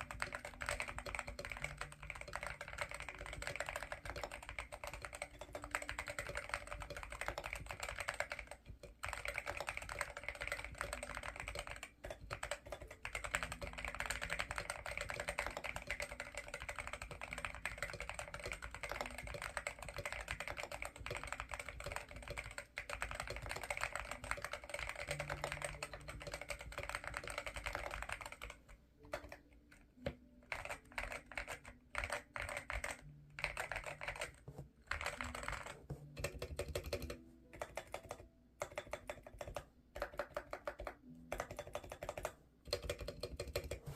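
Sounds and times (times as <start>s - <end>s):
mechanical keyboard typing: 0.0s - 43.9s.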